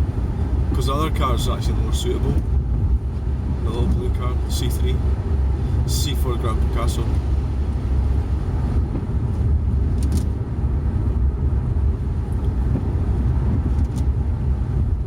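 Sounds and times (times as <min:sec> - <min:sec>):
car cabin engine and road rumble: 0:00.0 - 0:15.0.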